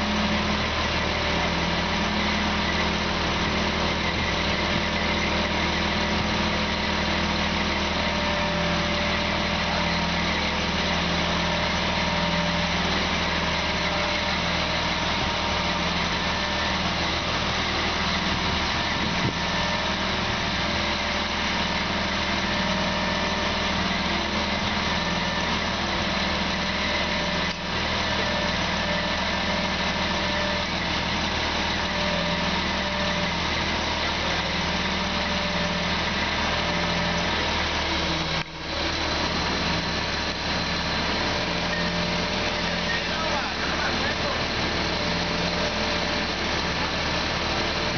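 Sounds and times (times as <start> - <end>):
crane engine running: 0.0 - 47.9.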